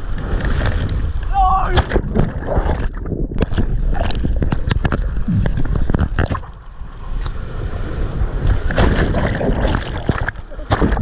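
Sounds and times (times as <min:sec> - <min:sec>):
water buffeting camera: 0:00.0 - 0:11.0
water splashing from paddling: 0:00.0 - 0:11.0.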